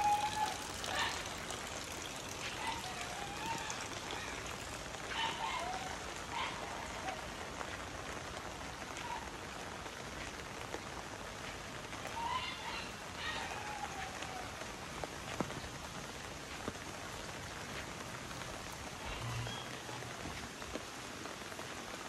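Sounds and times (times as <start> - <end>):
rain pattering on umbrella: 0.0 - 22.0.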